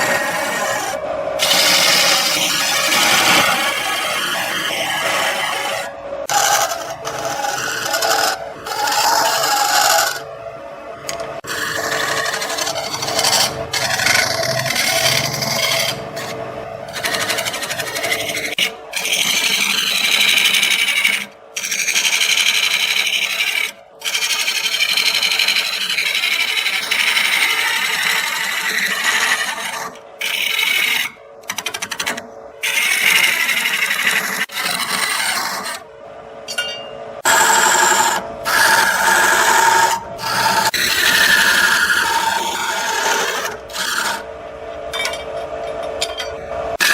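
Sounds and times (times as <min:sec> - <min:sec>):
wood lathe scraping hiss: 0:00.0 - 0:10.2, 0:11.4 - 0:35.8, 0:37.3 - 0:44.3.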